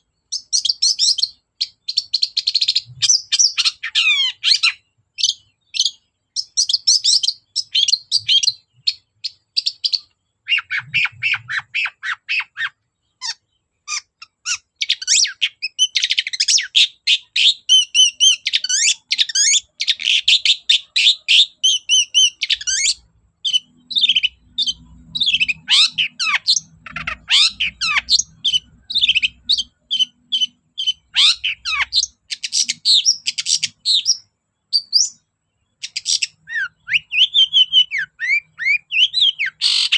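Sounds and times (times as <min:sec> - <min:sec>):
bird song with scratchy chattering: 0:00.0 - 0:39.9.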